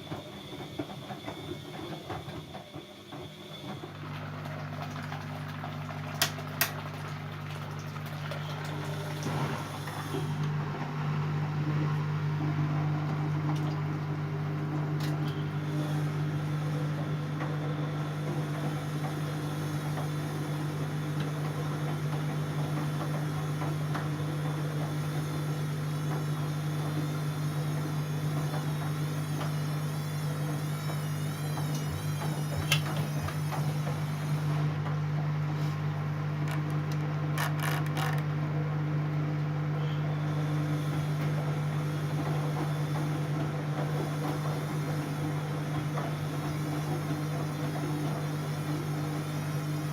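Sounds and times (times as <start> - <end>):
washing machine hum: 0.0 - 49.9.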